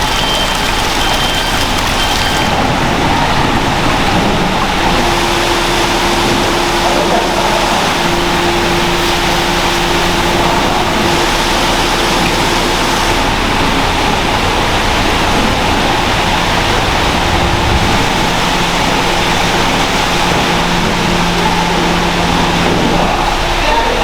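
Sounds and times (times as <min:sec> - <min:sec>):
machinery hums: 0:00.0 - 0:24.0
machinery rushing hiss: 0:03.1 - 0:23.5.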